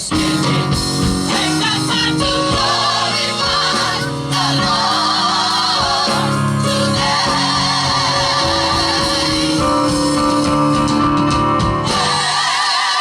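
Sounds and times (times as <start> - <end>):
gospel group singing: 0.0 - 11.0, 11.8 - 13.0.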